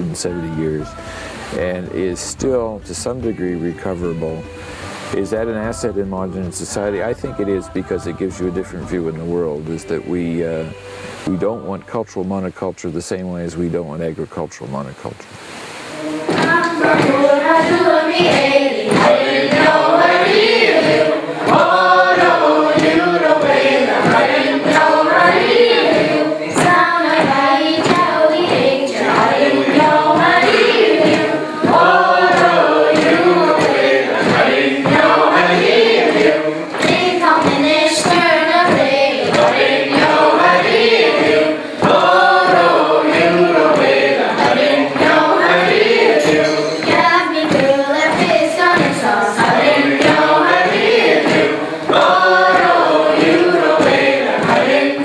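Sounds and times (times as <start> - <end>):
group of voices singing: 0.0 - 12.8, 15.4 - 55.0.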